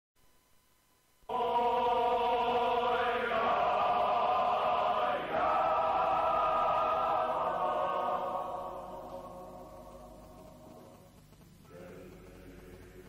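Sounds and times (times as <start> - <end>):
male choir singing chords: 1.3 - 13.0.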